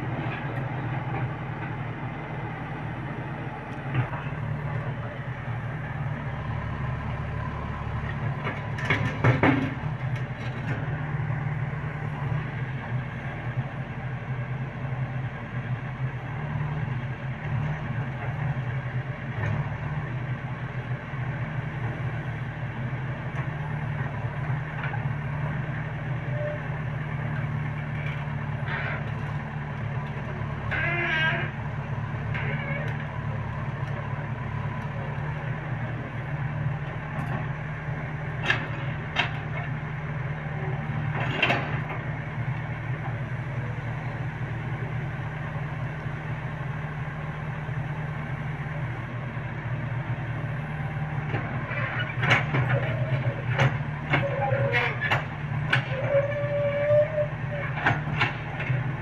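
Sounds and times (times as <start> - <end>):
backhoe digging soil: 0.0 - 13.7, 16.6 - 59.0
diesel engine running: 0.0 - 59.0.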